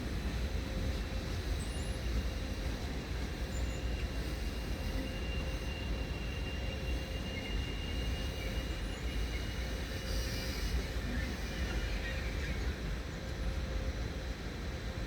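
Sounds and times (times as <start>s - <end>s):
electric train low rumble: 0.0s - 15.0s.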